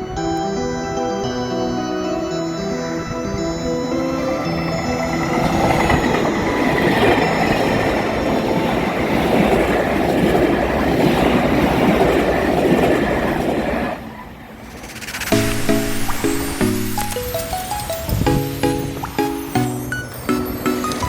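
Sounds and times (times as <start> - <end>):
train passing on rails: 0.0 - 21.0.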